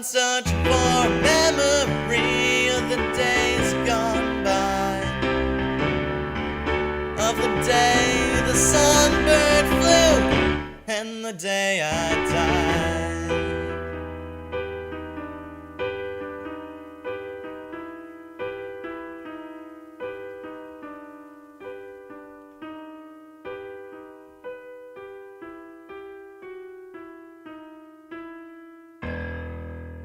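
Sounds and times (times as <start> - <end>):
solo piano melody: 0.5 - 10.9, 11.9 - 30.0.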